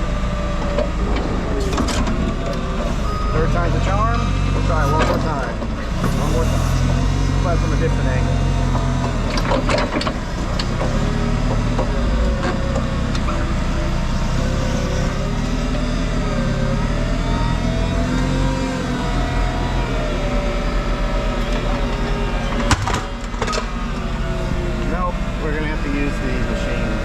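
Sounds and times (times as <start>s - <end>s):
heavy machinery diesel engine: 0.0s - 27.0s
hydraulic whine: 0.0s - 27.0s.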